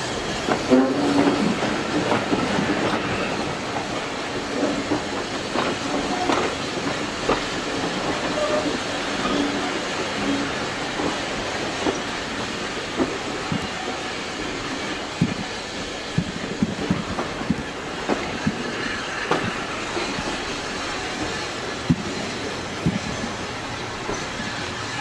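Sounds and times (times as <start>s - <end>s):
railway coach rumbling: 0.0s - 25.0s.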